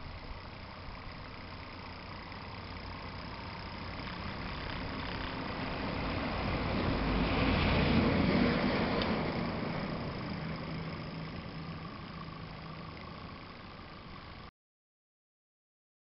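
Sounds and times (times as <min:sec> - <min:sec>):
model traction engine running: 0:00.0 - 0:14.5.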